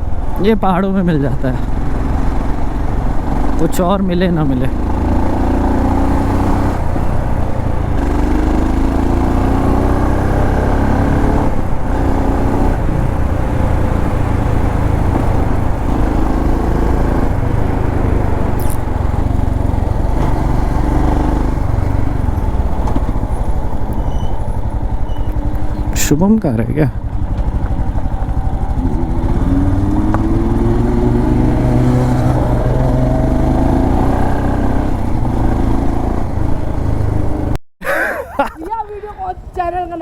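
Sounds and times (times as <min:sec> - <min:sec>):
motorcycle engine running: 0:00.0 - 0:37.6, 0:38.3 - 0:40.0
wind and road noise: 0:00.0 - 0:40.0.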